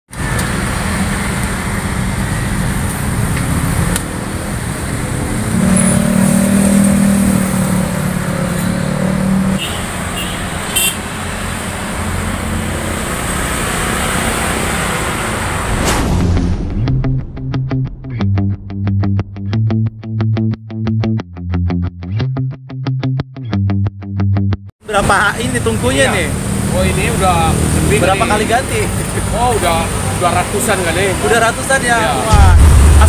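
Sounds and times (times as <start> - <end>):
traffic rumble: 0.1 - 19.3, 24.8 - 33.0.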